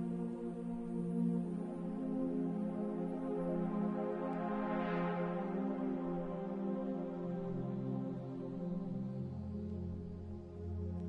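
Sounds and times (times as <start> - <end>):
ambient music of held chords: 0.0 - 11.0.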